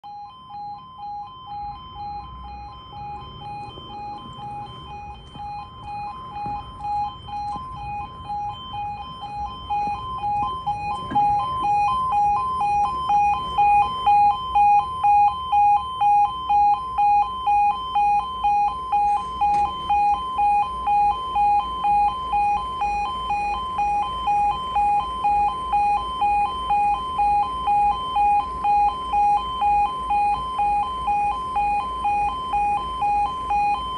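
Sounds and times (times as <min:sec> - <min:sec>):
level crossing two-tone alarm: 0:00.0 - 0:33.9.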